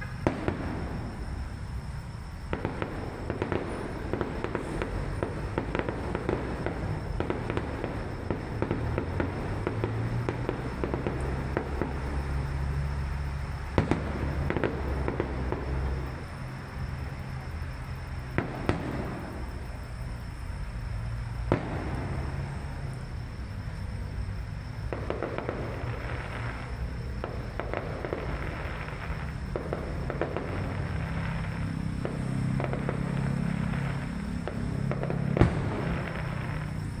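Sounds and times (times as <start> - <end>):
fireworks crackling pops: 0.0 - 1.8, 2.4 - 16.5, 18.2 - 20.3, 21.4 - 23.3, 24.7 - 37.0
fireworks bangs: 0.0 - 16.8, 18.2 - 20.6, 21.3 - 37.0.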